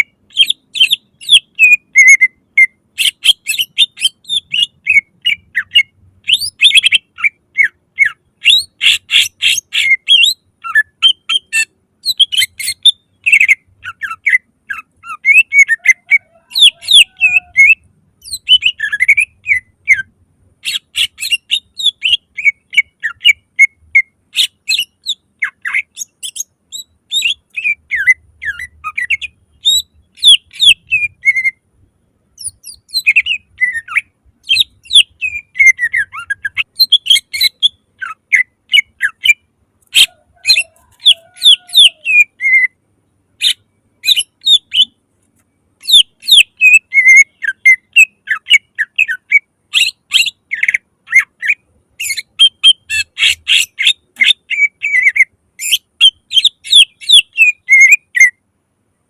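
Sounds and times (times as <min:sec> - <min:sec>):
bird singing whistled notes: 0:00.0 - 0:31.6, 0:32.4 - 0:42.8, 0:43.4 - 0:45.0, 0:45.8 - 0:58.4.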